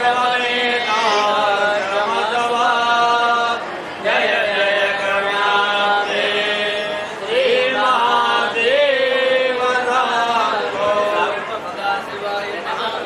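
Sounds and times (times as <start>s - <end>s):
person chanting mantras: 0.0s - 12.2s.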